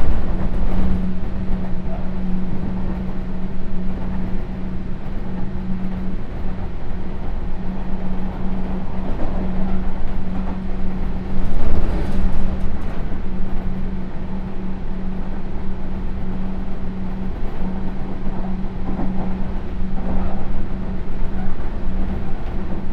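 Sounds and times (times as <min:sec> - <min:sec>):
constant hum: 0:00.0 - 0:22.9
train wheels rumbling on rails: 0:00.0 - 0:22.9.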